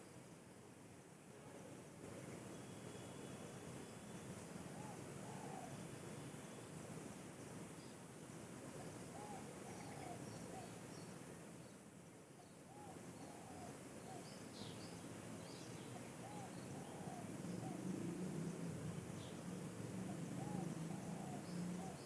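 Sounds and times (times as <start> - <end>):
insect hiss: 0.0 - 22.0.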